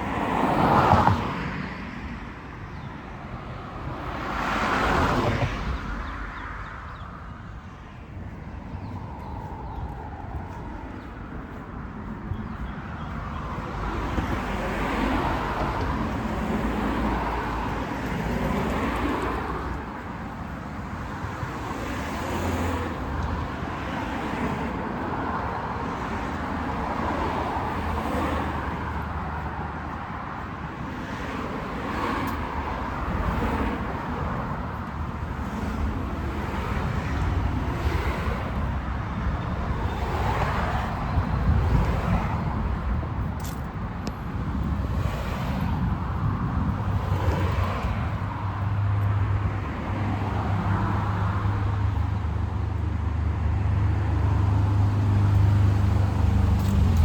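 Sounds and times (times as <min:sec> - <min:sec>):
cars driving past: 0:00.0 - 0:02.6, 0:03.2 - 0:57.0.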